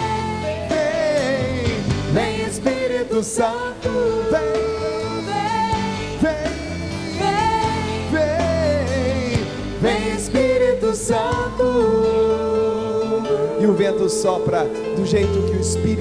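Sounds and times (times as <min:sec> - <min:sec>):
people singing into microphones: 0:00.0 - 0:16.0
sustained instrumental accompaniment: 0:00.0 - 0:16.0.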